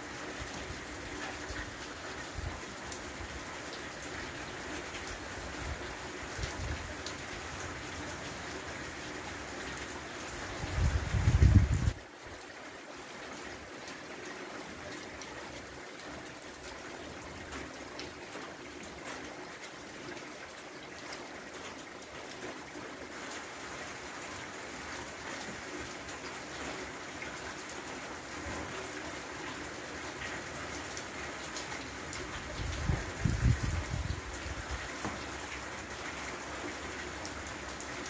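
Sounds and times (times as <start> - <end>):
rain on water and stone: 0.0 - 38.0.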